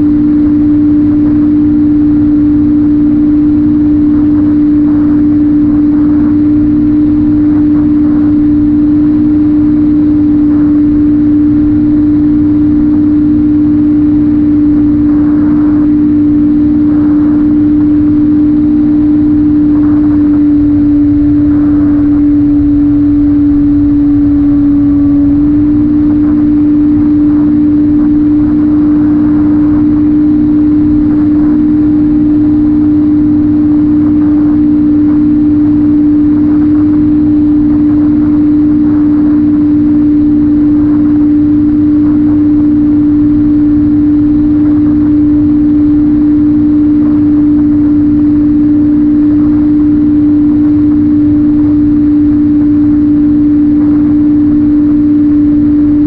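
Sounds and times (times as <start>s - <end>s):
electric motor and propeller drone: 0.0s - 56.0s
wind rush: 0.0s - 56.0s.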